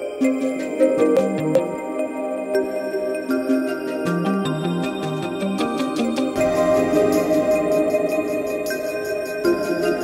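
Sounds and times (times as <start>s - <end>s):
calm background music: 0.0s - 10.0s.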